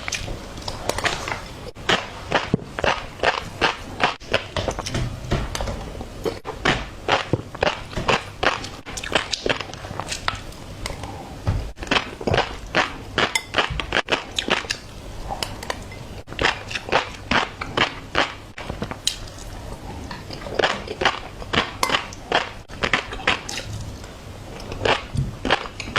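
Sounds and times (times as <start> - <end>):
chewing fish roe crackling: 0.0 - 4.8, 6.2 - 25.9.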